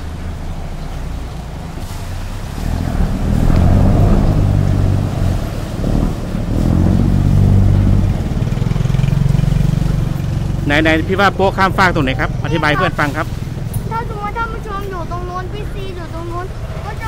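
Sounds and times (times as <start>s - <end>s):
boat diesel engine revving: 0.0s - 17.0s
propeller churning water: 0.0s - 17.0s.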